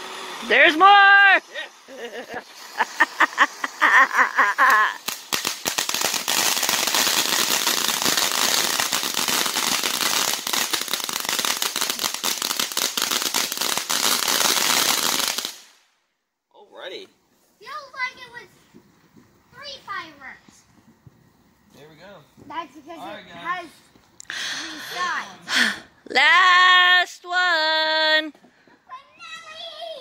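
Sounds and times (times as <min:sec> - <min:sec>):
firework fountain crackling: 0:00.0 - 0:16.0, 0:17.0 - 0:25.8, 0:29.1 - 0:30.0.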